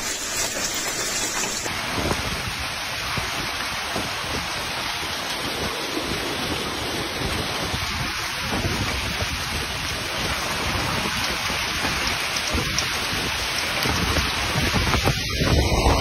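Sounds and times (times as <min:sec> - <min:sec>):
heavy rain and hail: 0:00.0 - 0:16.0.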